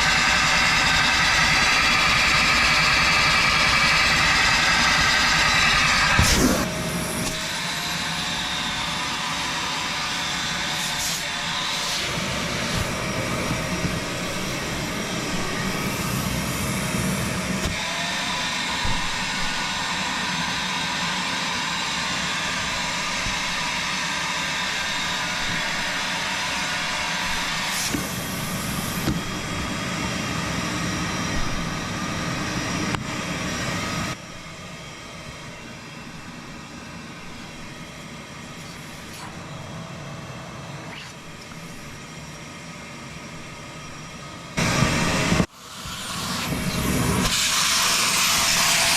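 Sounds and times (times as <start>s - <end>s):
shop vacuum running: 0.0s - 48.9s.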